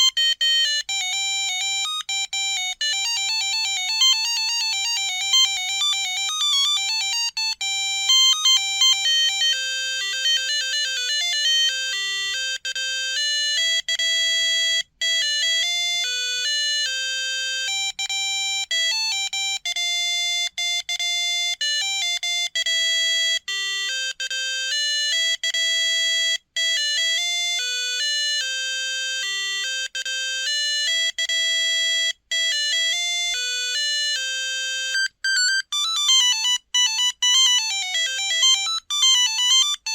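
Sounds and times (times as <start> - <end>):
monophonic phone ringtone: 0.0 - 39.9.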